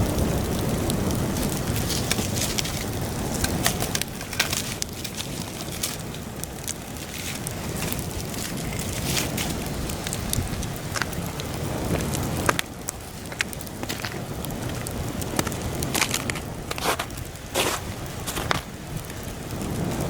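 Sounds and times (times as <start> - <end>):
campfire crackling and popping: 0.0 - 20.0
wind buffeting microphone: 0.0 - 20.0.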